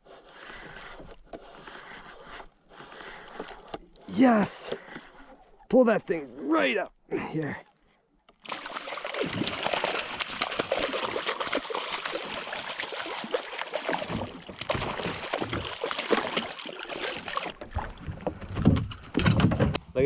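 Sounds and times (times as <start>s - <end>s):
water splashing and sloshing: 0.0s - 6.4s, 7.6s - 19.8s.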